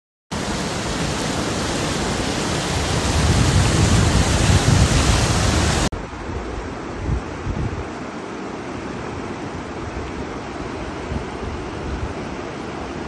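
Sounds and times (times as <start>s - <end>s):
flood water rushing: 0.3s - 13.0s.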